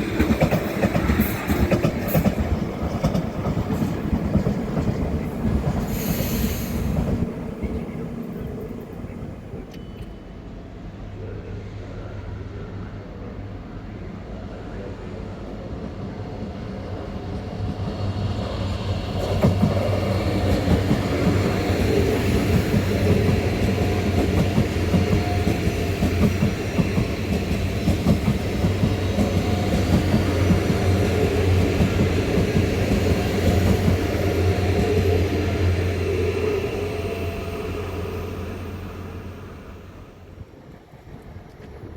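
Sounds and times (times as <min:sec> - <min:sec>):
train running past: 0:00.0 - 0:41.9.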